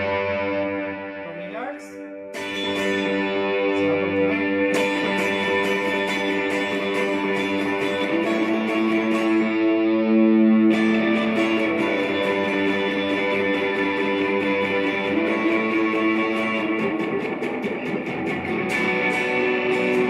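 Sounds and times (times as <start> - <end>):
electric guitar chords with reverb: 0.0 - 20.0.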